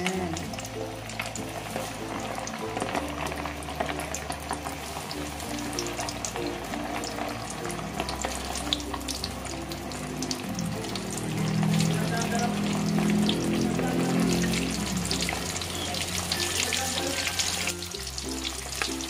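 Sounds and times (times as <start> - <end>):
background music: 0.0 - 19.0
deep-frying sizzle with pops: 0.0 - 19.0.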